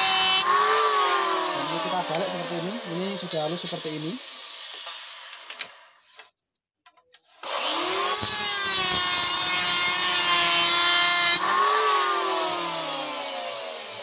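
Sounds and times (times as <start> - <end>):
electric planer cutting wood: 0.0 - 5.5, 7.4 - 14.0.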